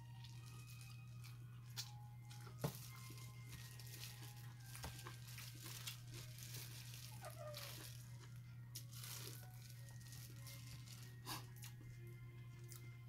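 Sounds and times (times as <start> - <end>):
plastic gloves crinkling: 0.0 - 12.9
soft eating noises: 0.0 - 13.0.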